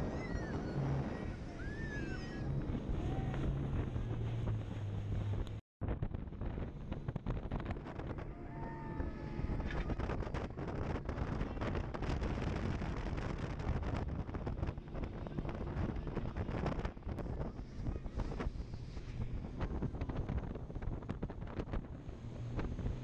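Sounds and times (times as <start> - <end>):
boat engine and water rumble: 0.0 - 23.0
wind buffeting microphone: 0.0 - 23.0.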